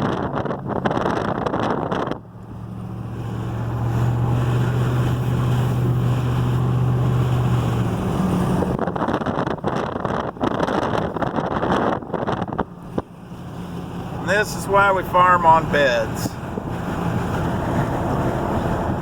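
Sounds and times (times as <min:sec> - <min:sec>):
road and wind noise: 0:00.0 - 0:19.0
vehicle engine hum: 0:00.0 - 0:19.0.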